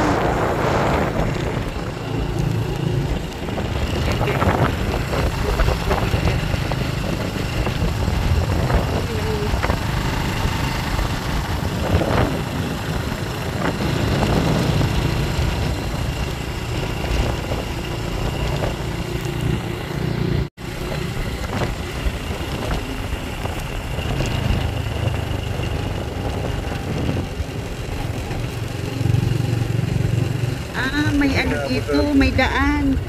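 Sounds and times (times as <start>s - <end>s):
rush of noise: 0.0s - 31.9s
motorcycle engine running: 0.0s - 33.0s.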